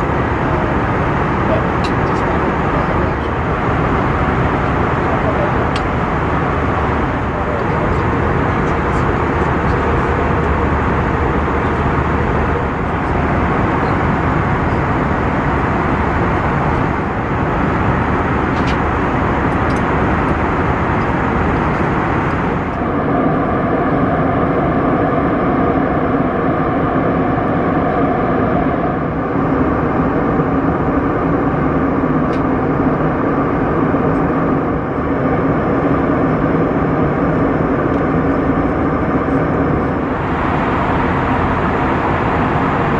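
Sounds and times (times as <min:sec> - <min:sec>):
hum with held tones: 0:00.0 - 0:42.9
jet engine and airflow noise: 0:00.0 - 0:42.9.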